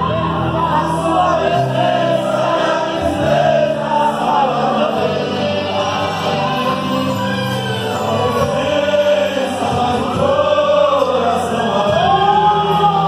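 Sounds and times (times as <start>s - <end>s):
vocal group singing gospel: 0.0s - 13.0s.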